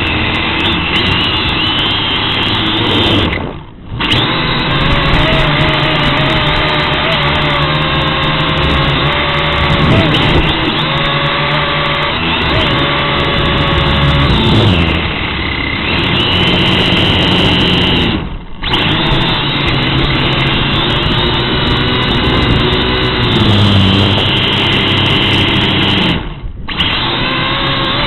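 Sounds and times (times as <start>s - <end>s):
toy drone propellers buzzing: 0.0s - 28.0s.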